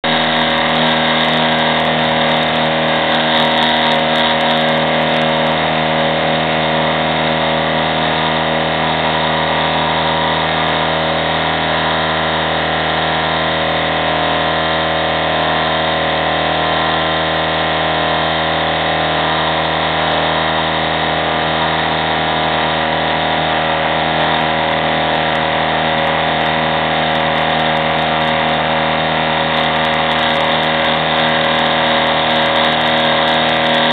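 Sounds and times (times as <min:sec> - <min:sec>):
spindle motor whine: 0:00.0 - 0:33.9.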